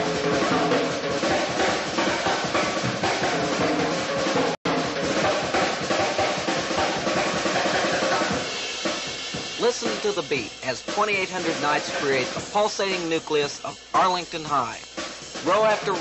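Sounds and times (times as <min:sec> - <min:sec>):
music with busy drum beat: 0:00.0 - 0:16.0.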